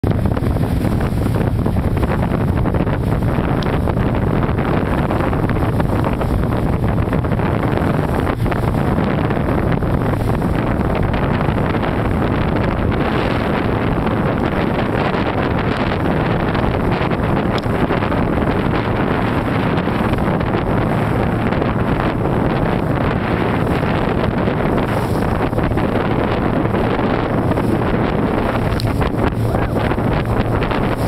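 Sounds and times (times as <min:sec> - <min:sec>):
boat engine: 0:00.0 - 0:31.0
water splashing: 0:00.0 - 0:31.0
wind rushing over microphone: 0:00.0 - 0:31.0.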